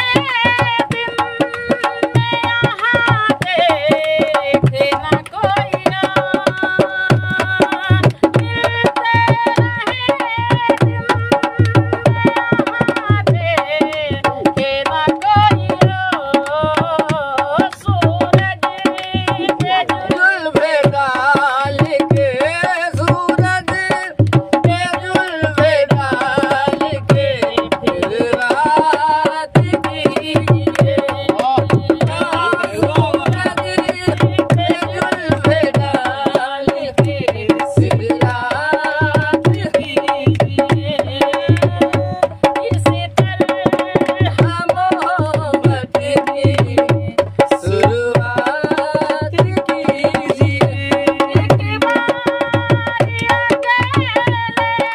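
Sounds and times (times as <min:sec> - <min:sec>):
dholak drum rhythm: 0:00.0 - 0:54.9
person singing: 0:00.0 - 0:54.9.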